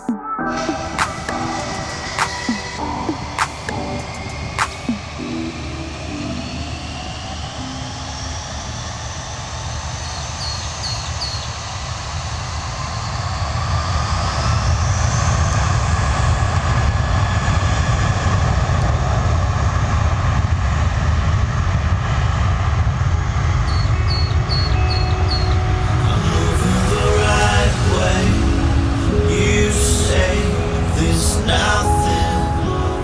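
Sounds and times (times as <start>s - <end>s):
jet engines spooling up: 0.0s - 33.0s.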